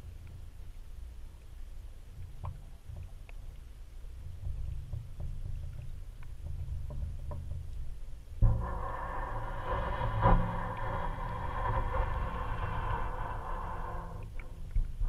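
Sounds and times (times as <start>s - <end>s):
faint clicks: 0.0s - 15.0s
underwater rumble: 0.0s - 15.0s.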